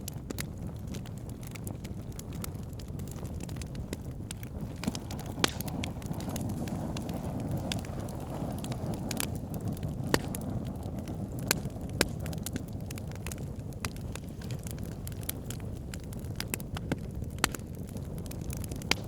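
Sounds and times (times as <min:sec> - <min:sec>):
loud fire pops: 0:00.0 - 0:19.0
wood fire crackling: 0:00.0 - 0:19.0.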